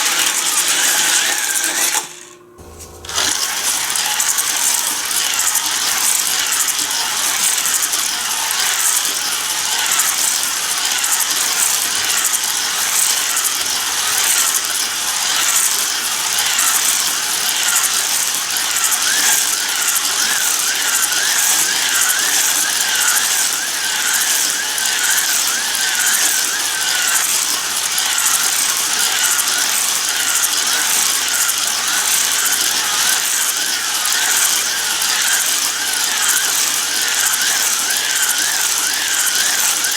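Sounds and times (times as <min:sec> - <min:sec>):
small electric motor whine: 0:00.0 - 0:39.9
toy cars clattering on plastic track: 0:00.0 - 0:39.9.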